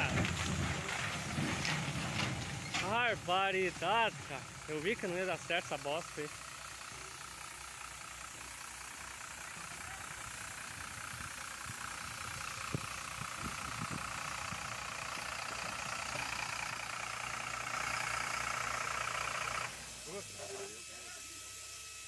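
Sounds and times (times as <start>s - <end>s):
heavy vehicle engine running: 0.0s - 20.6s.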